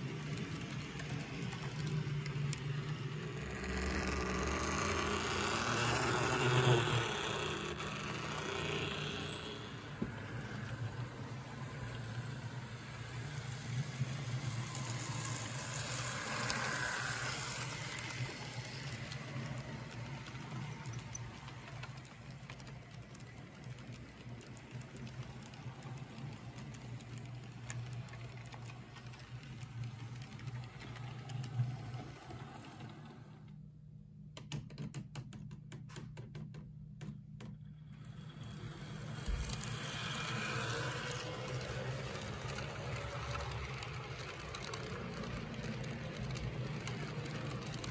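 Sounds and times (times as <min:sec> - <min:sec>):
wheels rattling over rails: 0:00.0 - 0:33.4, 0:38.0 - 0:47.9
model train motor hum: 0:00.0 - 0:33.5, 0:37.9 - 0:47.9.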